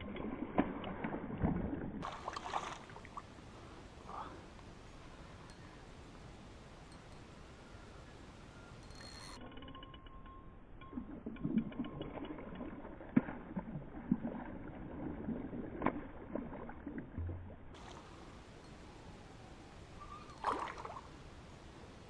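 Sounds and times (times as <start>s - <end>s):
water and boat noise: 0.0s - 22.0s.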